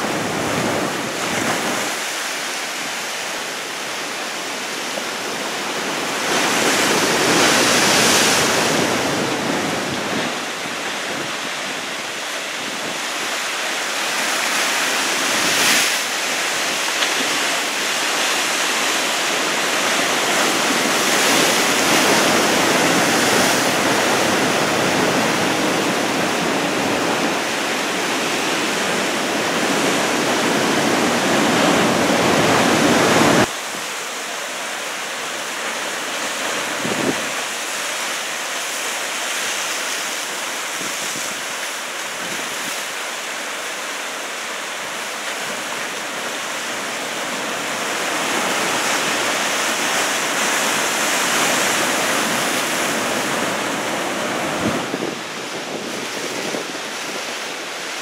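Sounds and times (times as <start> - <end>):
surf breaking on rocky shore: 0.0 - 58.0.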